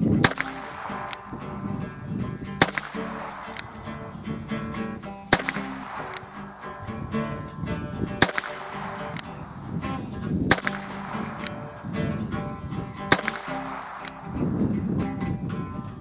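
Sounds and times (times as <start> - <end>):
guitar music: 0.0 - 16.0
revolver gunshots: 0.2 - 12.3, 12.9 - 14.4.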